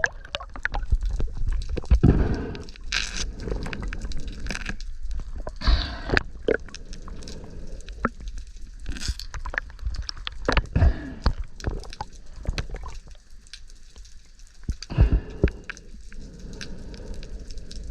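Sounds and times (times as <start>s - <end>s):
rushes of water bubbles: 0.0s - 13.3s, 14.6s - 17.9s
underwater clicks and crackles: 0.0s - 17.9s.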